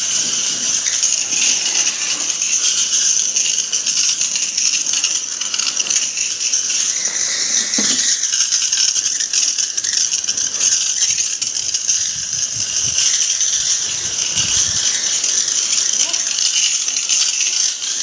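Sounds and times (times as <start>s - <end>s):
hose spray hissing: 0.0s - 18.0s.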